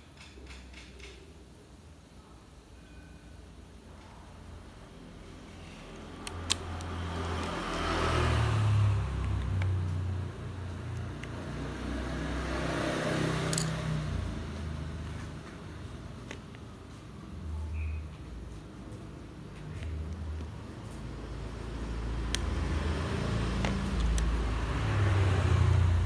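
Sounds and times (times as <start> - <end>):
vehicles passing on road: 5.0 - 26.0.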